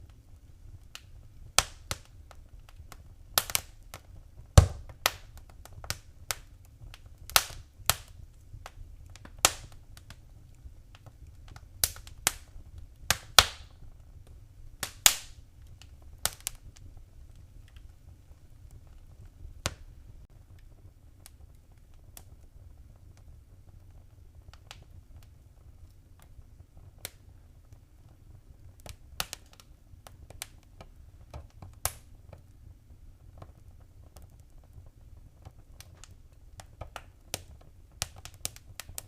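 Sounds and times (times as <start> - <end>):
faint low rumble: 0.0 - 39.0
wood fire crackling and popping: 0.0 - 39.0.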